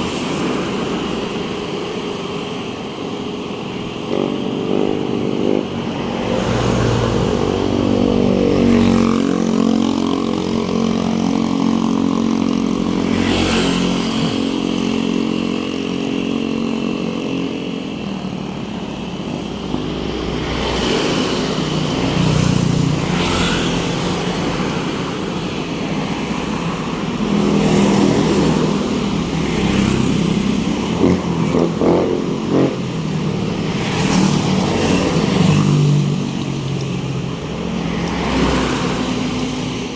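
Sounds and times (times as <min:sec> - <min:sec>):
steady traffic rumble: 0:00.0 - 0:39.9
vehicles passing close by: 0:00.0 - 0:39.9.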